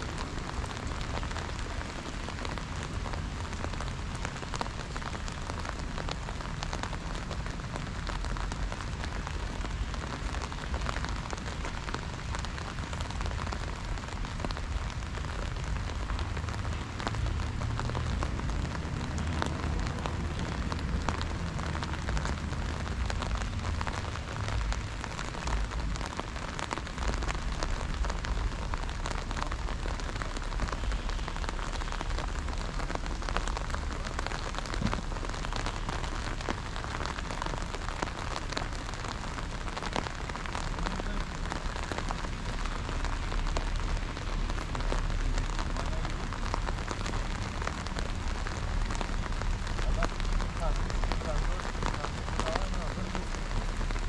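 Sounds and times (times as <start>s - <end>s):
rain on stone paving: 0.0s - 54.0s.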